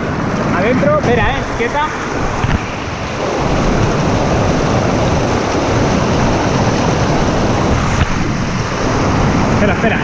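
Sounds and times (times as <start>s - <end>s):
mountain stream rushing over rocks: 0.0s - 10.0s.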